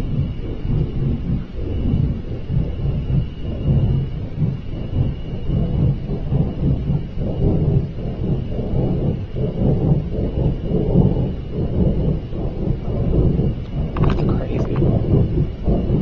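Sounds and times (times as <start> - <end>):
loud low rumble: 0.0 - 16.0.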